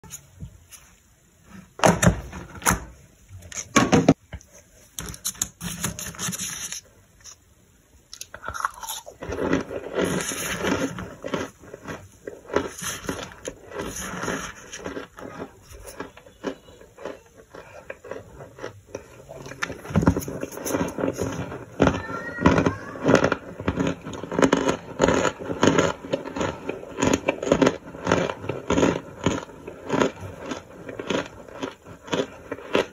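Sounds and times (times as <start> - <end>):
plastic spoon scraping chunks: 5.0 - 7.4, 8.2 - 32.9.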